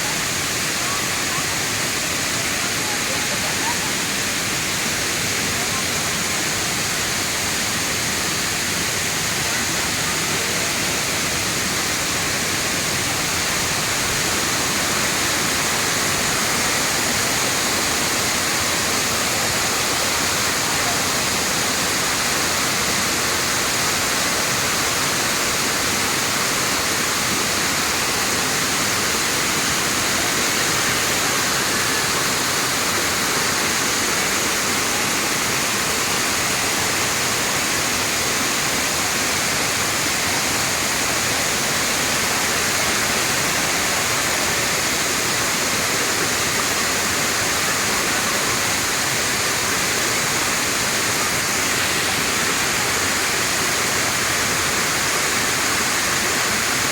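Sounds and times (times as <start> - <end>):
waterfall rushing and splashing: 0.0 - 56.9.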